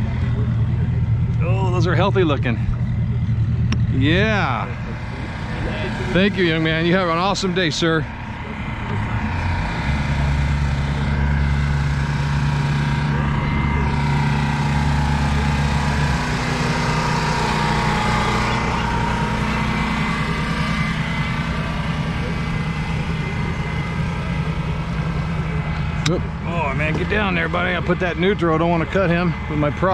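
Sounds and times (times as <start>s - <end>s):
outboard motor running: 0.0s - 29.9s.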